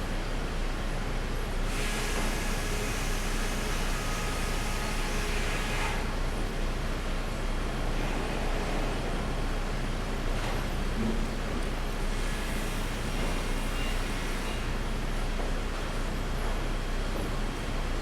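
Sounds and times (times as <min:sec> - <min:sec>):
sawmill machinery drone: 0:00.1 - 0:10.6, 0:11.9 - 0:18.0.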